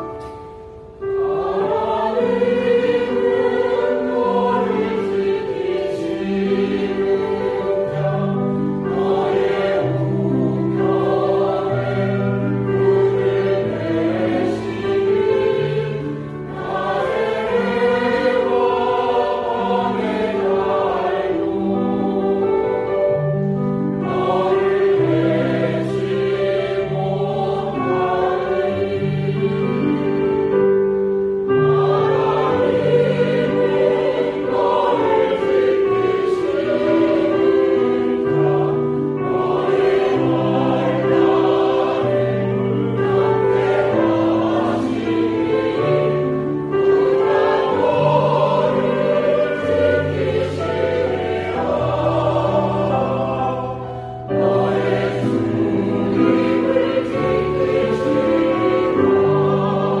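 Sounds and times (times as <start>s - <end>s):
choir singing: 0.0s - 60.0s
keyboard accompaniment: 0.0s - 60.0s.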